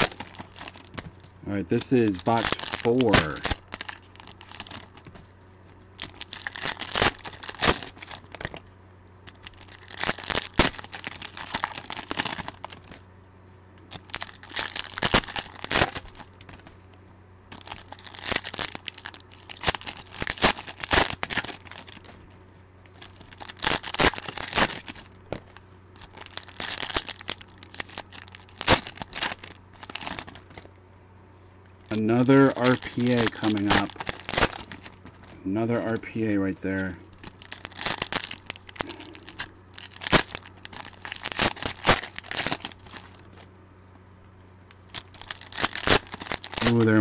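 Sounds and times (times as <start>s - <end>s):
plastic wrappers tearing and crinkling: 0.0s - 5.2s, 6.0s - 8.6s, 9.3s - 13.0s, 13.9s - 16.7s, 17.5s - 22.3s, 23.0s - 30.7s, 31.8s - 43.5s, 44.8s - 47.0s.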